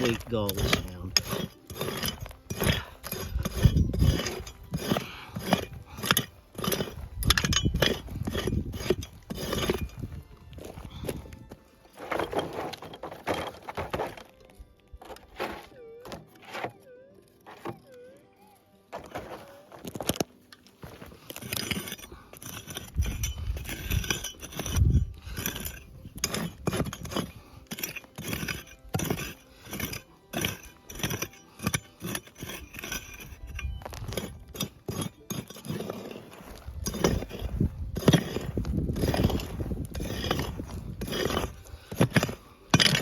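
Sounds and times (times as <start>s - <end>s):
digging tool striking stony ground: 0.0s - 16.8s, 18.9s - 43.0s
stones clinking and scraping: 0.0s - 16.8s, 18.9s - 43.0s.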